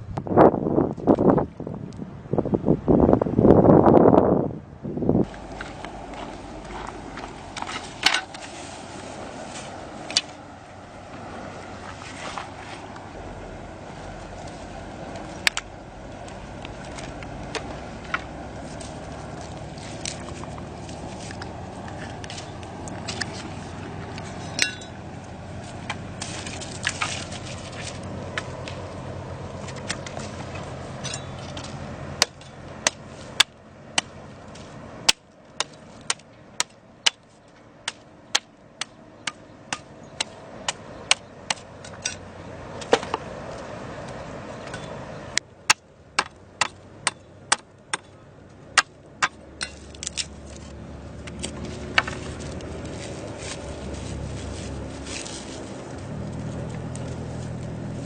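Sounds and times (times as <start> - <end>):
steady background noise: 0.0 - 58.0.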